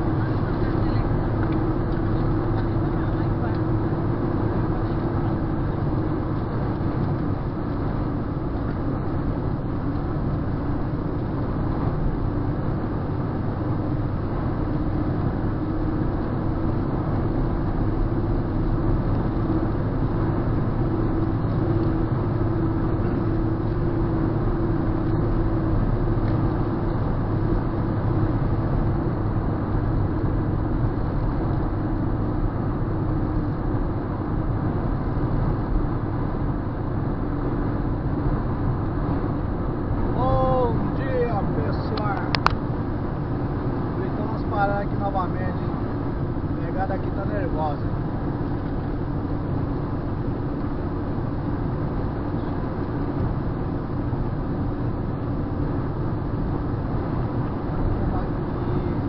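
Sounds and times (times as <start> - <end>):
car engine drone: 0.0 - 59.0
tyre and road noise: 0.0 - 59.0.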